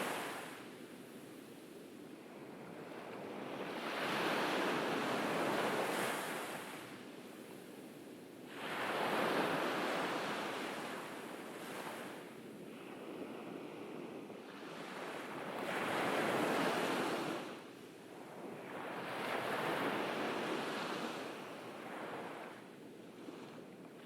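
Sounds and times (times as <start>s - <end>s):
ocean waves breaking on beach: 0.0s - 1.6s, 2.4s - 24.0s.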